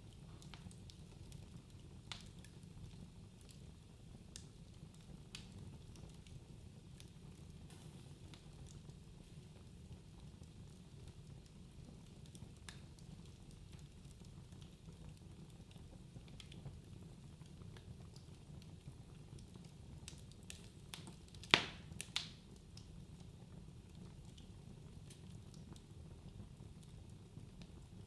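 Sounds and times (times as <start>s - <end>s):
fire crackling and popping: 0.0s - 28.0s
wood fire rumbling: 0.0s - 28.0s.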